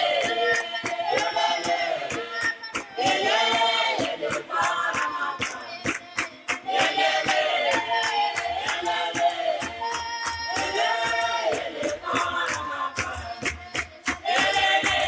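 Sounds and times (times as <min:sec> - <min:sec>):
chorus singing: 0:00.0 - 0:15.0.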